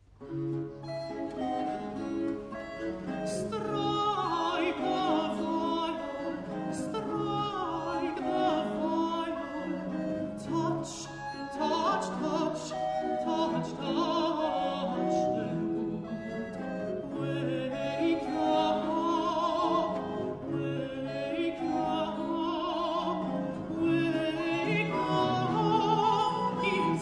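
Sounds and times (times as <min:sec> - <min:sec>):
recorders and continuo: 0:00.0 - 0:27.0
countertenor singing: 0:01.4 - 0:27.0.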